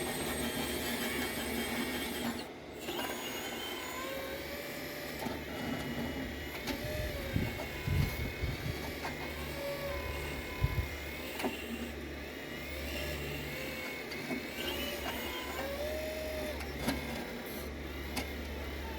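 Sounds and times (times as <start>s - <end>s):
hydraulic pump whine: 0.0s - 18.9s.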